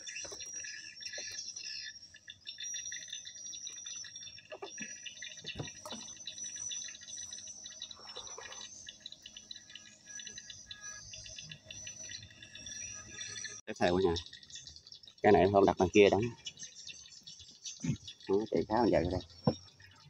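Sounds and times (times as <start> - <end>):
birds chirping: 0.0 - 20.0
insects chirping: 0.0 - 20.0.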